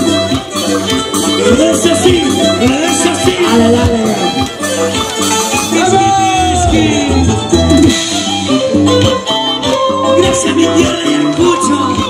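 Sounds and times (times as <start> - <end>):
harp and violin dance music: 0.0 - 12.0.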